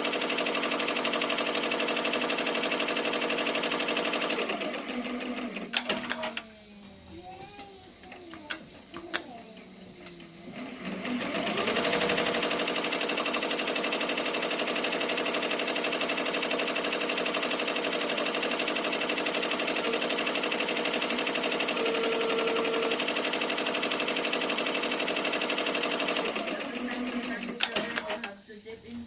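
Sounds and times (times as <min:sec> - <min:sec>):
embroidery machine stitching: 0:00.0 - 0:06.5, 0:08.4 - 0:28.4.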